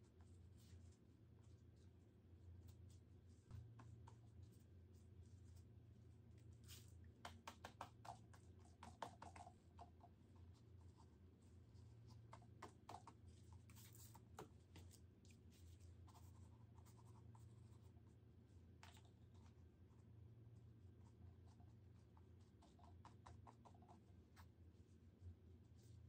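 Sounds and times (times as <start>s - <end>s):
soft scratchy paint strokes: 0.0s - 7.2s, 8.0s - 26.0s.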